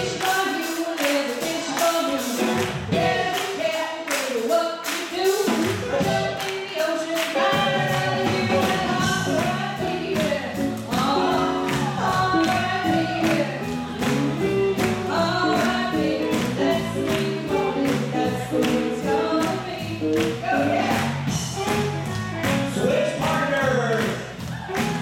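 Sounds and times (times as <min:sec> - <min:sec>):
person singing: 0:00.0 - 0:25.0
swing band playing: 0:00.0 - 0:25.0.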